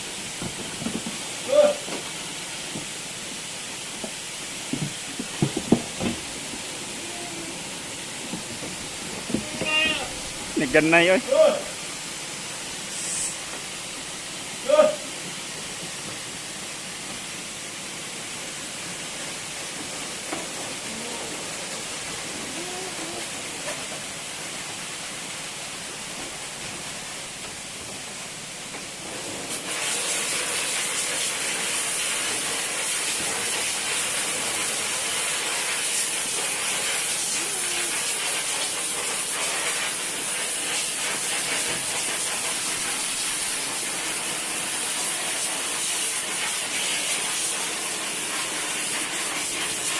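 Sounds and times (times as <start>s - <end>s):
spraying hiss: 0.0s - 49.9s.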